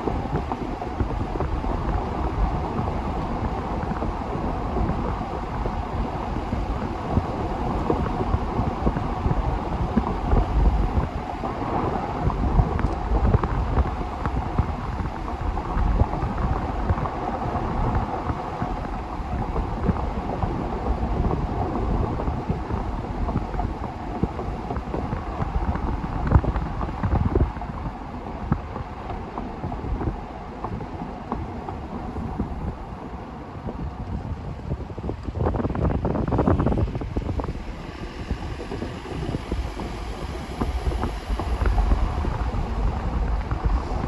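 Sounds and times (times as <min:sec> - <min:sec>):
steady rushing noise: 0:00.0 - 0:44.0
wind buffeting microphone: 0:00.0 - 0:44.0.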